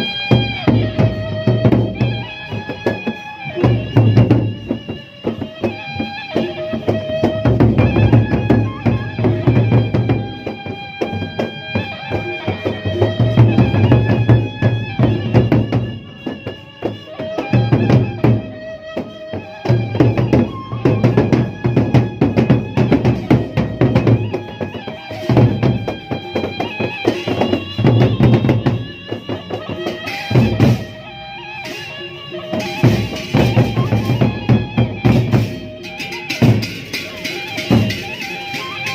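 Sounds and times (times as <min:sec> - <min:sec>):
bamboo flute melody: 0:00.0 - 0:38.9
big drums beating: 0:00.0 - 0:38.9
cymbals clashing: 0:00.0 - 0:38.9.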